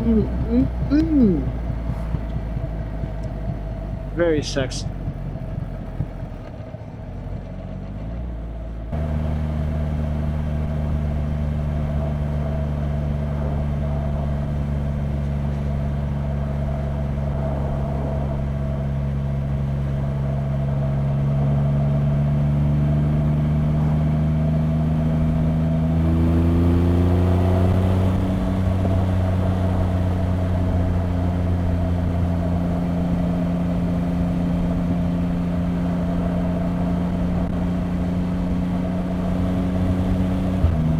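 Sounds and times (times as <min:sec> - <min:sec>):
motorcycle engine on the road: 0:00.0 - 0:40.9.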